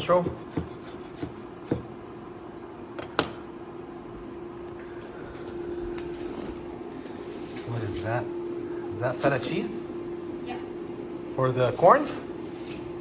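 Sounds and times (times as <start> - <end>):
appliance hum: 0.0 - 13.0.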